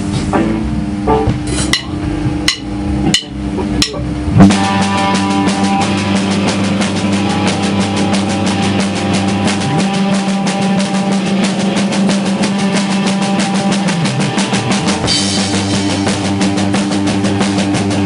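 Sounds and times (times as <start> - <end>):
held guitar notes: 0.0 - 18.0
rock band playing: 0.0 - 18.0
fast drum strokes: 1.0 - 18.0.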